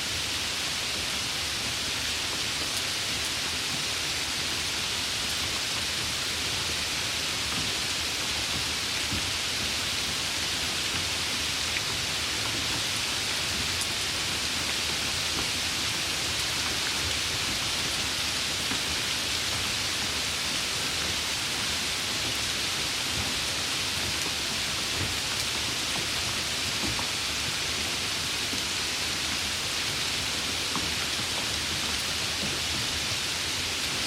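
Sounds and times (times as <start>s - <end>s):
steady rain: 0.0s - 34.0s.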